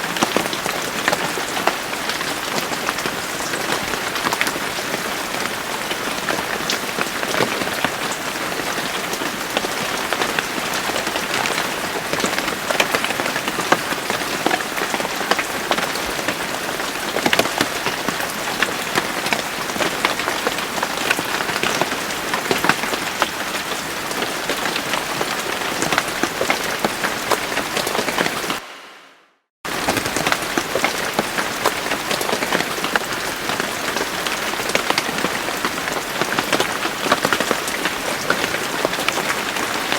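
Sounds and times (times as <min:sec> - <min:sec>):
rain drops clicking on a surface: 0:00.0 - 0:28.6, 0:29.7 - 0:39.9.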